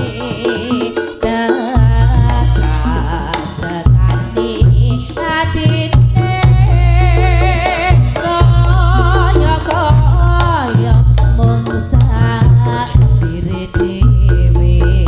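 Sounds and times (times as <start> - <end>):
drum strokes: 0.0 - 15.0
gamelan music with boosted bass: 0.0 - 15.0.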